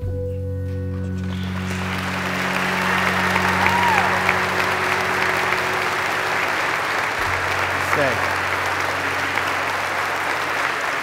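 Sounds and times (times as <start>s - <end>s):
sustained music: 0.0s - 11.0s
congregation applauding: 1.1s - 11.0s.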